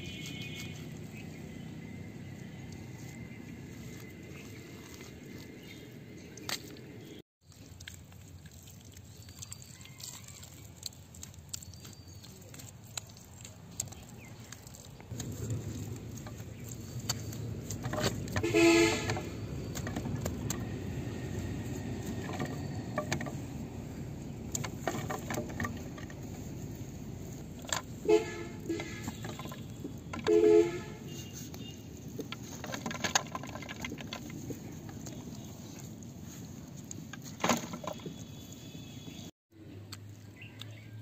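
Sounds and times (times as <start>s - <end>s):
hands squelching wet mud: 0.0s - 41.0s.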